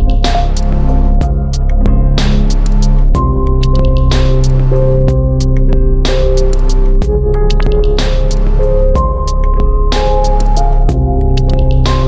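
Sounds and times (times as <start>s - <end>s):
light percussion beat: 0.0s - 12.0s.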